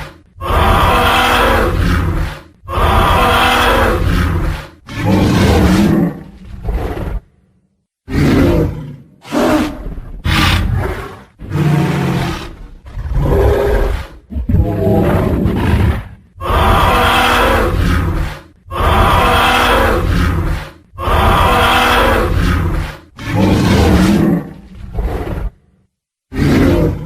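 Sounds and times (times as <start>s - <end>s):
dinosaur roars: 0.0s - 7.3s, 8.1s - 27.0s.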